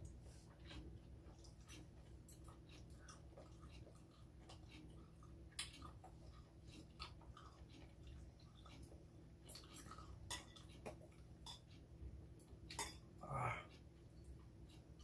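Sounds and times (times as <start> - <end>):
close-up chewing: 0.0 - 15.0.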